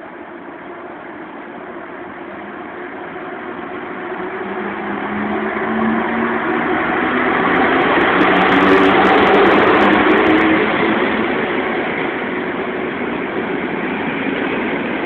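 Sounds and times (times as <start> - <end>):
electric locomotive running: 0.0 - 15.0.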